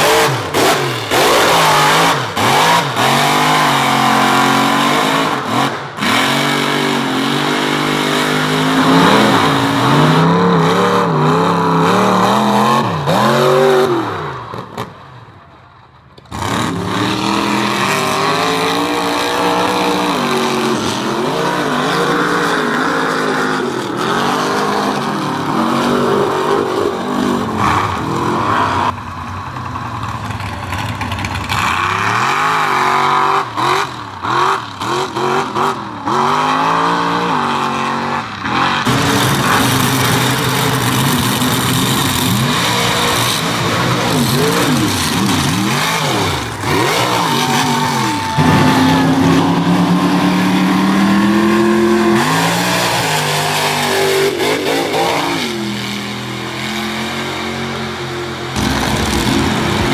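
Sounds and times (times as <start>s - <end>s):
truck engines revving hard: 0.0s - 59.9s.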